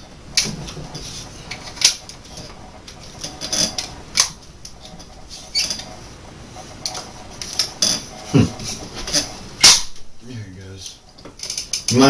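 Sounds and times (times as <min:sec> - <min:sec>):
metal parts scraping: 0:00.0 - 0:10.0, 0:10.9 - 0:12.0.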